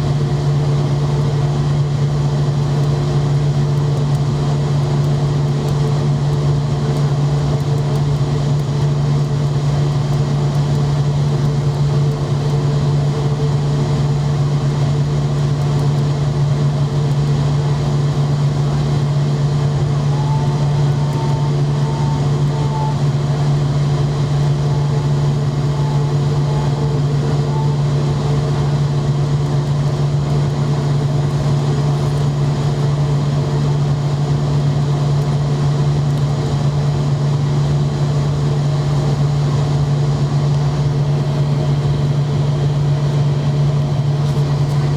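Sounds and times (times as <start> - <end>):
airliner engine drone: 0.0 - 44.9.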